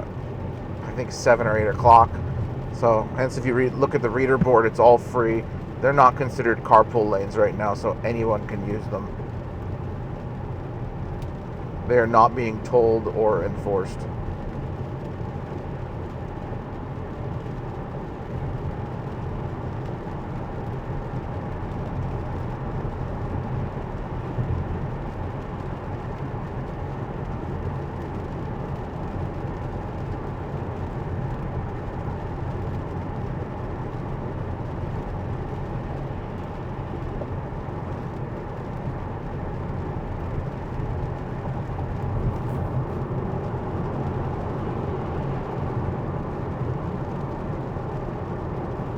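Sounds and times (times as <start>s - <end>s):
tyre and road noise in car: 0.0s - 48.9s.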